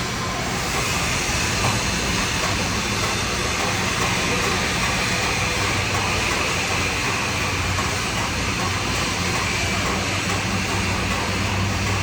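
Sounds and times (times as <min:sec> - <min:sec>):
welding arc hiss: 0:00.0 - 0:12.0.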